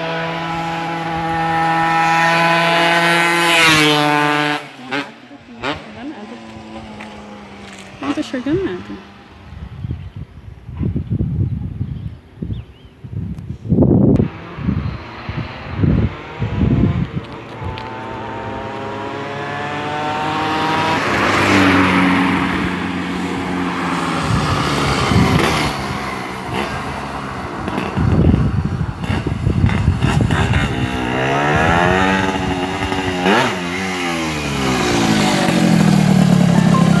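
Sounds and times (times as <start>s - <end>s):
two-stroke engine revving: 0.0s - 9.4s, 14.1s - 37.0s.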